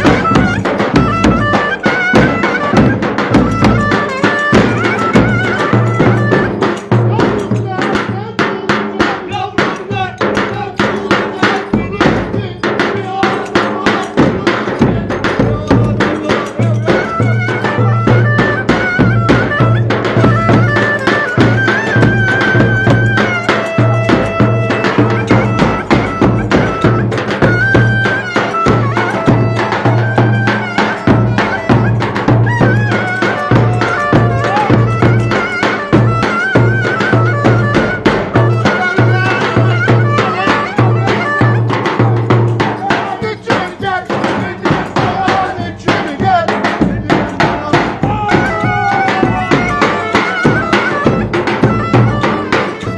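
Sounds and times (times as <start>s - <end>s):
reedy wind instrument melody: 0.0s - 8.0s, 13.0s - 52.9s
pulsing drum beat: 0.0s - 52.9s.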